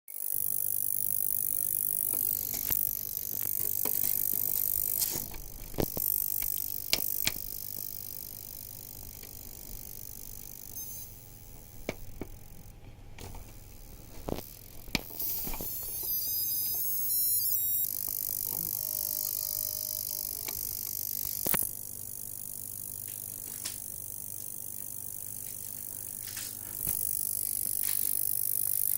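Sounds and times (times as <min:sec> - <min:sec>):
sharp electronic clicks: 0:00.2 - 0:12.7, 0:13.4 - 0:28.9
steady hiss and low hum: 0:02.1 - 0:28.3.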